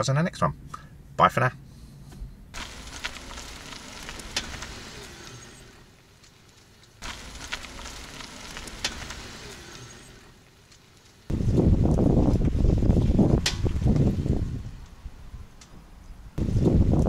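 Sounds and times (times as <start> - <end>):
tyre noise hiss: 1.7 - 17.0.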